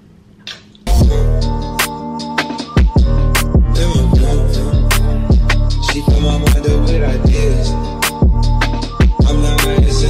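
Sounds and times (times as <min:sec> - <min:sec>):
hip hop beat: 0:00.9 - 0:10.0.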